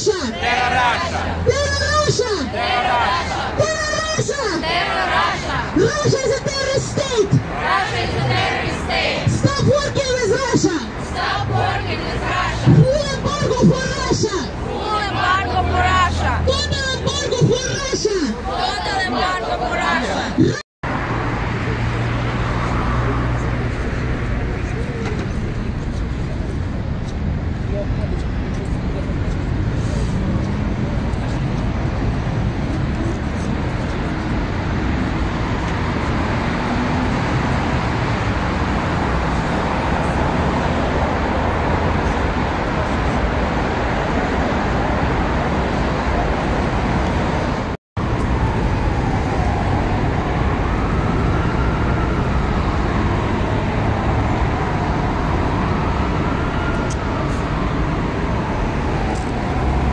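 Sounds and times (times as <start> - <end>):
city road traffic: 0.0 - 59.9.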